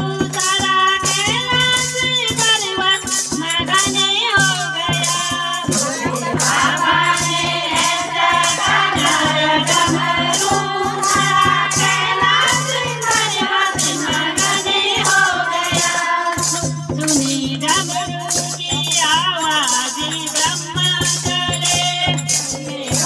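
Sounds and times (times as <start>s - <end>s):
rattling percussion: 0.0s - 23.0s
women singing devotional song: 0.0s - 23.0s
people clapping: 4.4s - 23.0s.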